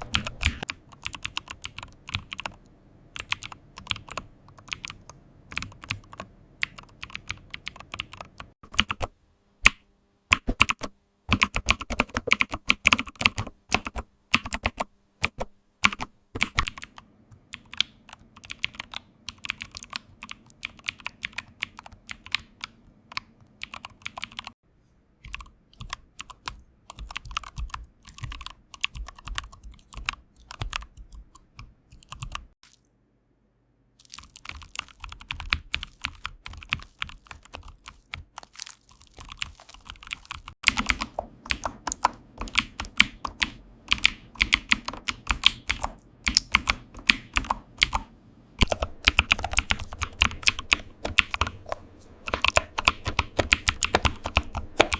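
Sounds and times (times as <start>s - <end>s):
rapid typing on keyboard: 0.0s - 9.0s, 10.3s - 24.6s, 25.2s - 32.6s, 34.0s - 48.0s, 48.6s - 54.9s.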